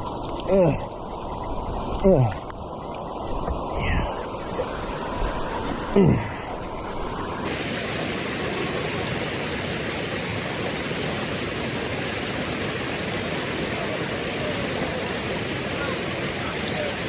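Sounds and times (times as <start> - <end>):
water rushing down creek bed: 0.0 - 17.0.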